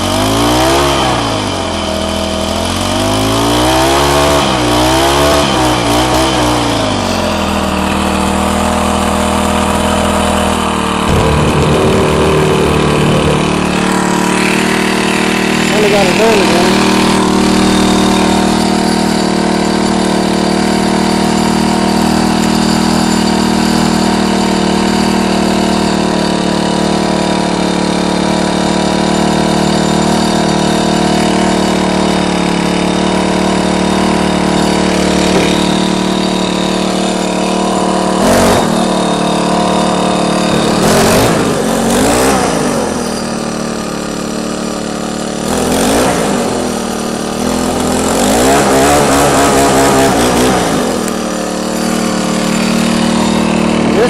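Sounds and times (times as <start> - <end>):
string trimmer engine running: 0.0 - 54.0.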